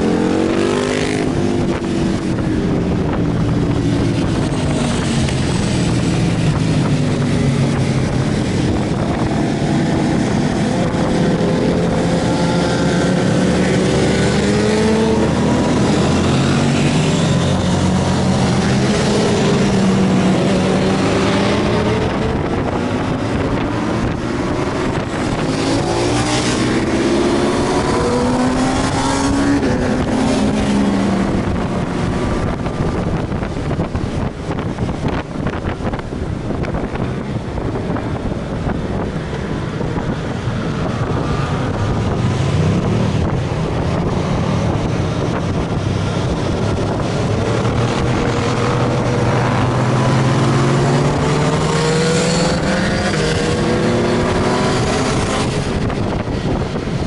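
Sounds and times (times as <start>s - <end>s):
motorcycle engine revving: 0.0s - 57.0s
wind buffeting microphone: 0.0s - 57.0s.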